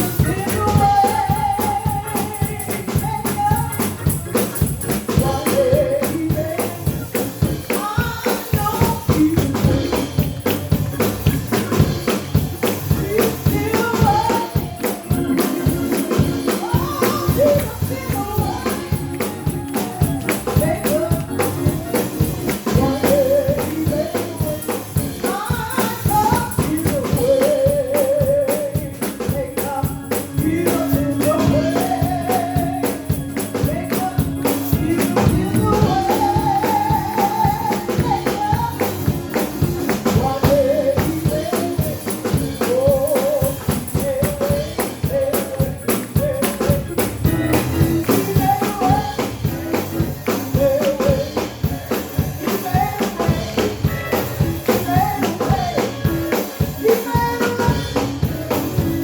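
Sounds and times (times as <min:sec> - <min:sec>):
band percussive beat: 0:00.0 - 0:59.0
person singing gospel: 0:00.0 - 0:59.0.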